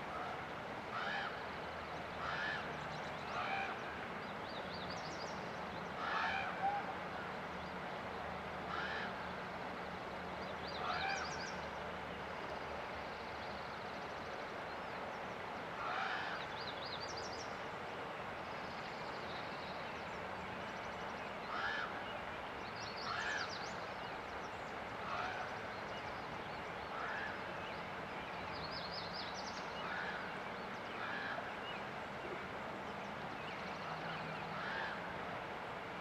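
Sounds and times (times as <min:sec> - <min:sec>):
flowing river water: 0:00.0 - 0:36.0.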